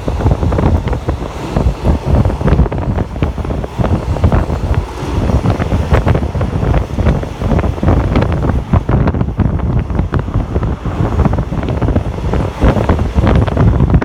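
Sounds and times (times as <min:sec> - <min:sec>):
train running rumble: 0:00.0 - 0:14.0
wind buffeting microphone: 0:00.0 - 0:14.0.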